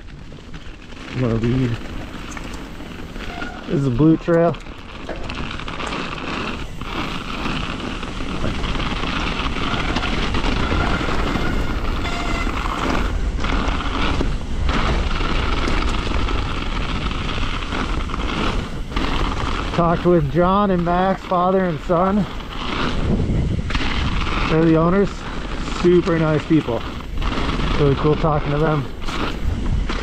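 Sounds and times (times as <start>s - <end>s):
bike tyres rumbling on trail: 0.0s - 30.0s
wind rushing over microphone: 0.0s - 30.0s.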